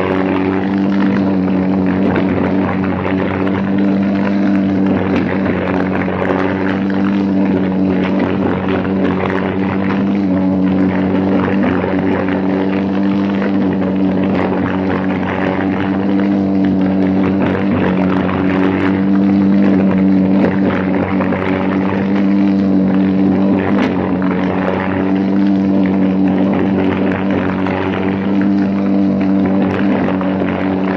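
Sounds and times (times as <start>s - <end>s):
kart engine at high revs: 0.0s - 30.9s.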